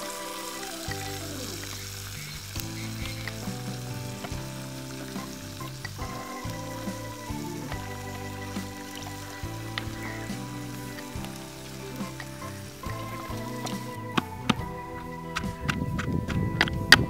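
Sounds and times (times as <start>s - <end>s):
food sizzling in hot oil: 0.0s - 14.6s
background music: 0.0s - 17.0s.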